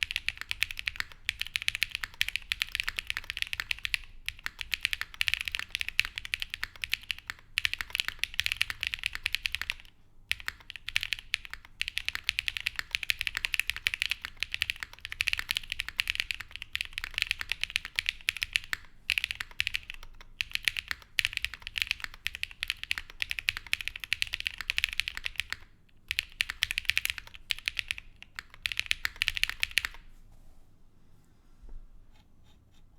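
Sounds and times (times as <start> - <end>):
fast typing on mechanical keyboard: 0.0 - 30.0.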